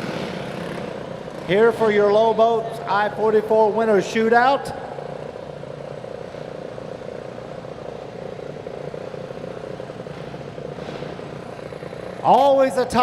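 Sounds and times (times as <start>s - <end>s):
go-kart engine idling: 0.0s - 13.0s.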